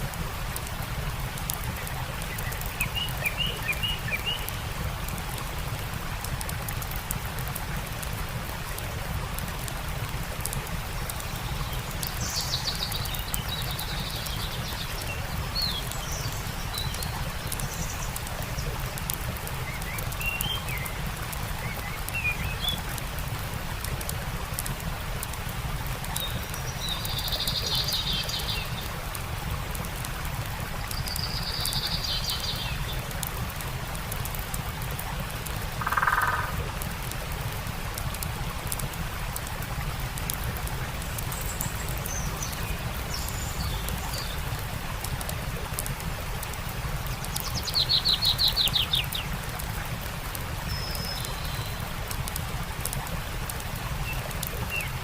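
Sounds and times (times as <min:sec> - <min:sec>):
campfire crackling: 0:00.0 - 0:55.0
stream rushing: 0:00.0 - 0:55.0.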